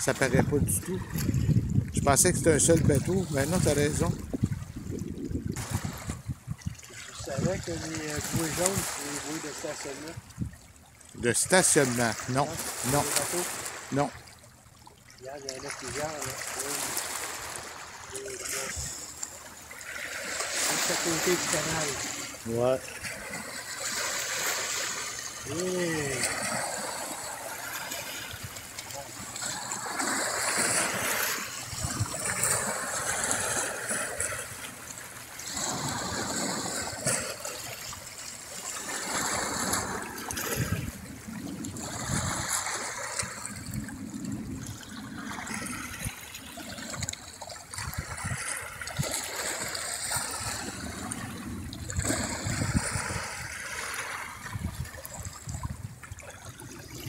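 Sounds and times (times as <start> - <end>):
waves splashing over rocks: 0.0 - 4.8, 5.5 - 57.0.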